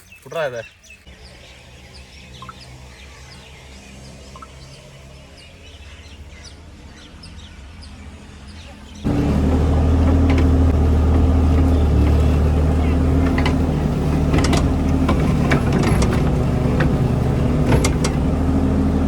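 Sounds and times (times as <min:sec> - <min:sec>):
small birds chirping: 0:00.0 - 0:19.0
loud engine running: 0:01.1 - 0:19.0
low engine hum: 0:01.1 - 0:19.0.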